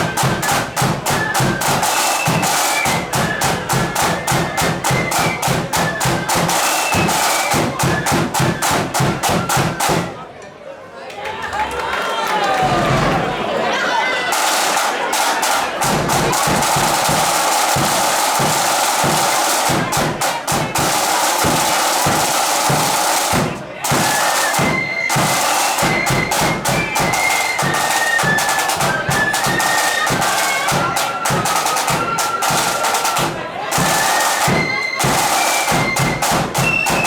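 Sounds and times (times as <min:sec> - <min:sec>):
flute melody: 0:00.0 - 0:10.2, 0:14.5 - 0:37.0
snare and bass drum: 0:00.0 - 0:10.2, 0:14.3 - 0:37.0.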